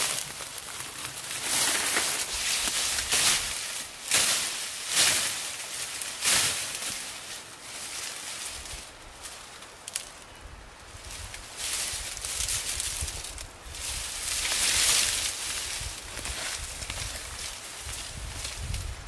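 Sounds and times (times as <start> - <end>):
grass and stems rustling: 0.0 - 19.0.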